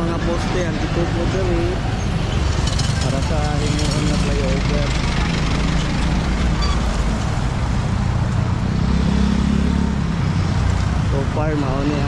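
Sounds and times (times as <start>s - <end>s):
cars passing: 0.0s - 12.0s
motorcycles passing: 0.0s - 12.0s.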